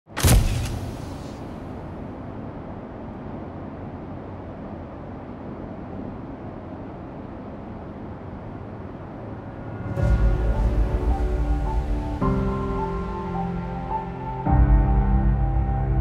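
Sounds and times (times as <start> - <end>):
rushing noise with deep rumble: 0.1 - 16.0.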